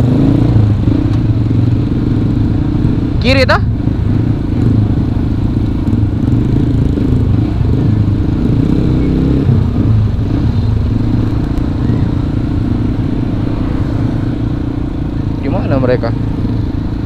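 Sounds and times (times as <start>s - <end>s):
motorcycle engine running at low speed: 0.0s - 17.0s.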